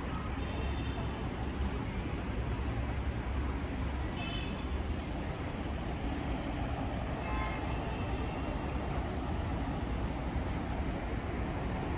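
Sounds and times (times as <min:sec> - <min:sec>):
road traffic: 0:00.0 - 0:11.9.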